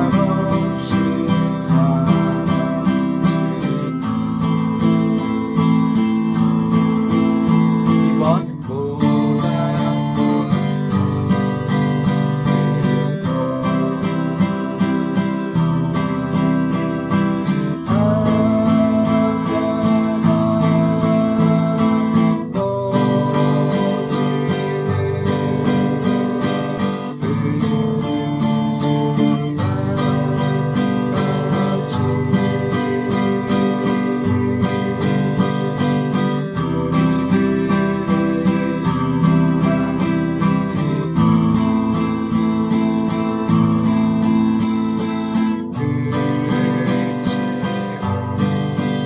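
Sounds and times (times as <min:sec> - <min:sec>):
acoustic guitar strummed in waltz rhythm: 0:00.0 - 0:49.0.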